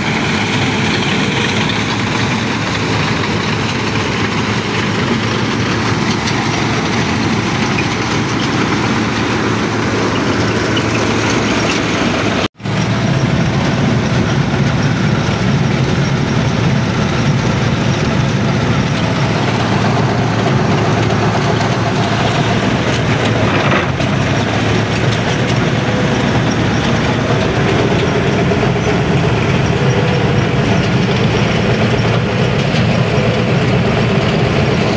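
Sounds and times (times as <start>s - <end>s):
combine harvester diesel engine: 0.0s - 34.9s
reel and cutter bar clatter: 0.1s - 33.6s.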